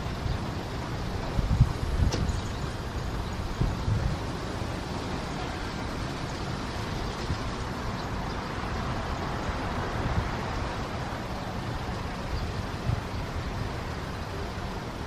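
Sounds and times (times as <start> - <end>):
city street traffic: 0.0 - 15.0
wind rumble on microphone: 0.0 - 15.0.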